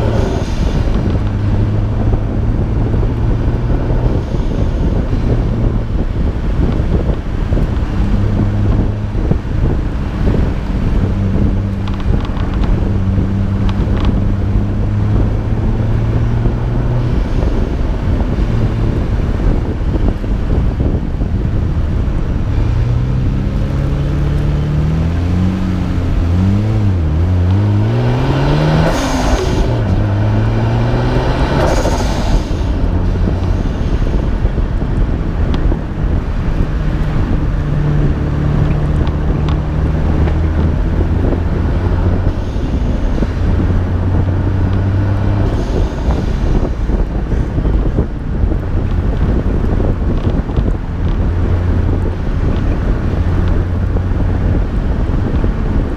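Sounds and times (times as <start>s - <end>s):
car engine revving: 0.0s - 55.9s
road noise: 0.0s - 55.9s
wind noise: 0.0s - 55.9s.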